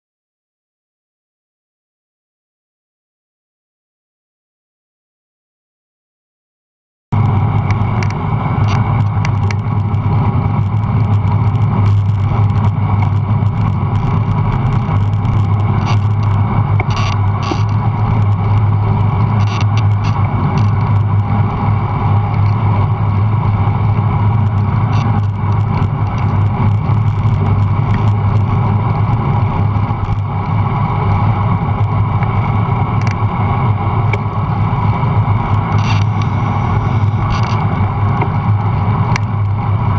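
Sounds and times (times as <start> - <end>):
bicycle road noise rumble: 7.1 - 39.9
wind noise: 7.2 - 39.9.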